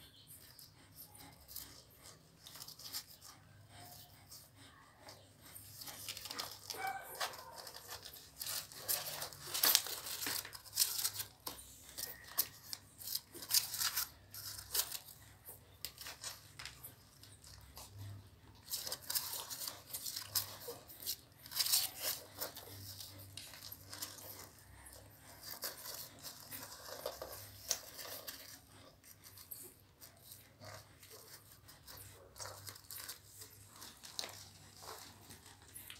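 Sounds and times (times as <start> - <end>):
puppies rustling and clicking: 0.0 - 35.9.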